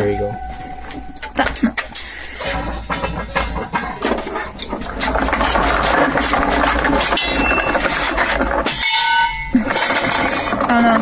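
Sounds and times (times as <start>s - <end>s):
cart rattling rumble: 0.0s - 11.0s.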